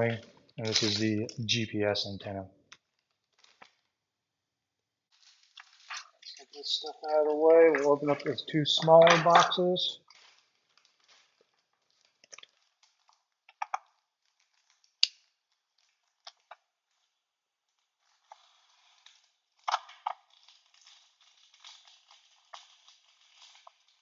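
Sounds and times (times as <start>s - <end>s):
packaging crinkling and rustling: 0.6s - 1.2s, 2.8s - 4.0s, 5.1s - 17.1s, 17.7s - 24.0s.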